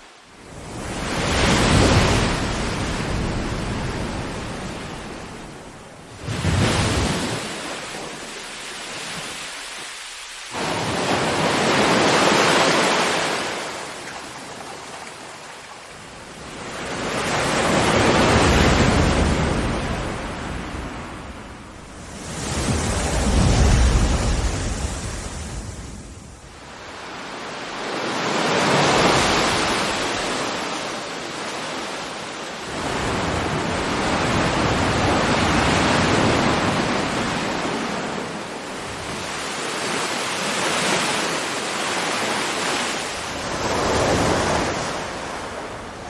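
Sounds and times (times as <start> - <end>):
ocean waves breaking: 0.0 - 46.0.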